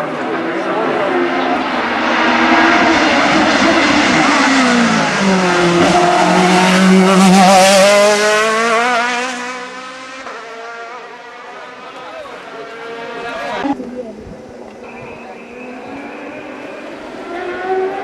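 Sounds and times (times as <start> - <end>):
racing car engine passing: 0.0 - 18.0.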